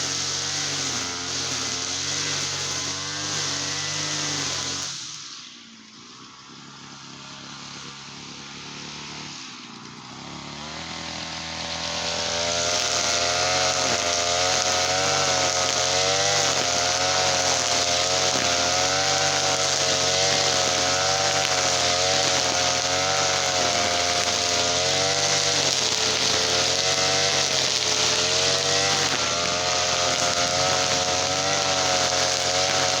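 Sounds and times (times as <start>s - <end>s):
brush cutter engine revving: 0.0s - 33.0s.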